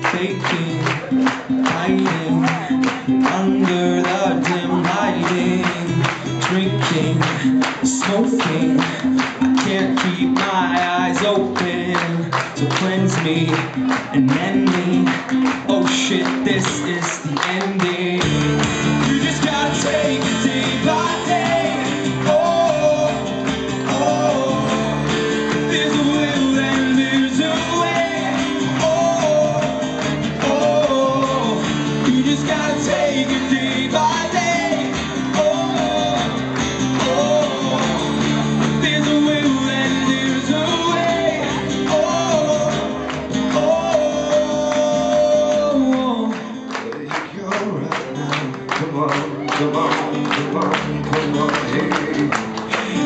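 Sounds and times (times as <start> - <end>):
strummed acoustic guitar: 0.0 - 53.0
two men singing: 0.0 - 53.0.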